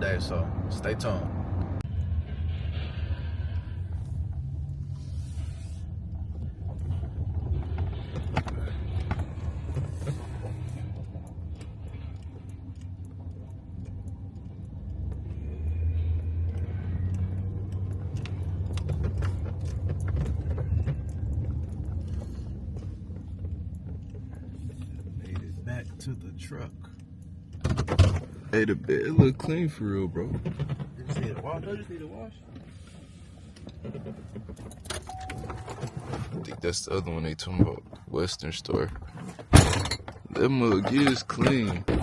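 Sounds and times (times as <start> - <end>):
engine and road rumble: 0.0 - 42.0.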